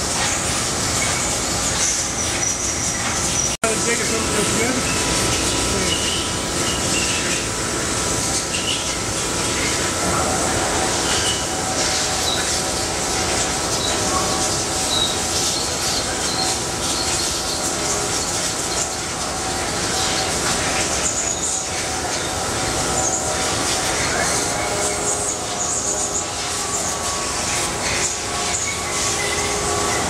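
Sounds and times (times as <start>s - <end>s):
machining center running hum: 0.0s - 30.0s.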